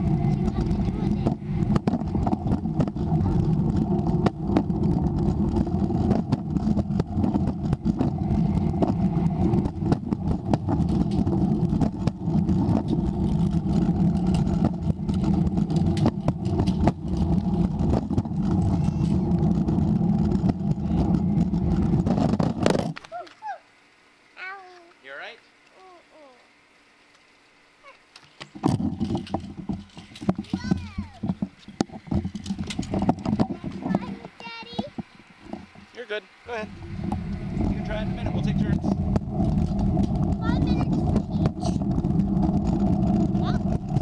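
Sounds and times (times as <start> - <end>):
scooter wheels rolling on concrete: 0.0 - 23.5, 26.9 - 44.0.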